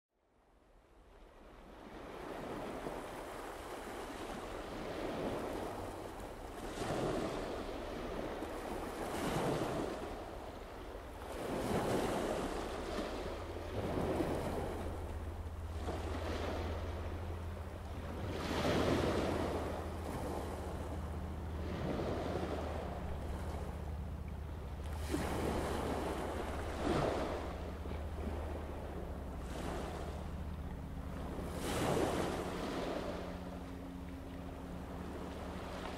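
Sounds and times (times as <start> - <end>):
sea waves washing in: 1.1 - 35.9
steady low hum: 1.3 - 35.9.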